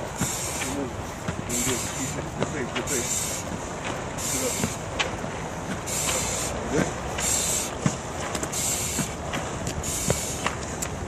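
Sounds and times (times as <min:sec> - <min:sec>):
fire engine idling: 0:00.0 - 0:11.0.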